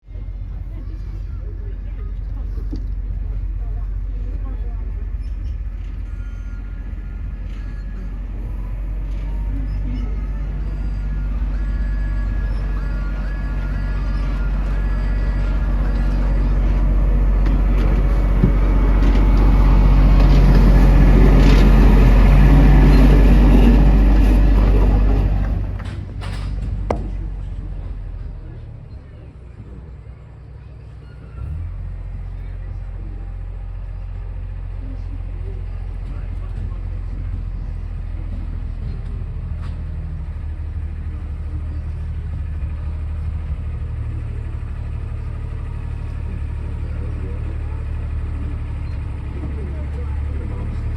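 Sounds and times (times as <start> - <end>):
ride train rumbling: 0.0 - 50.9.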